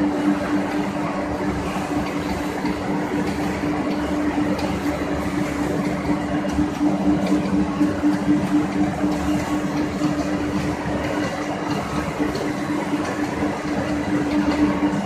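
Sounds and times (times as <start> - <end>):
conveyor mechanical rush: 0.0 - 15.0.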